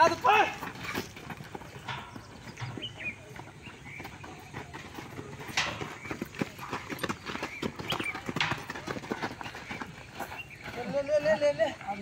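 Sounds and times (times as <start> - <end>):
footsteps running on packed ground: 0.0 - 12.0.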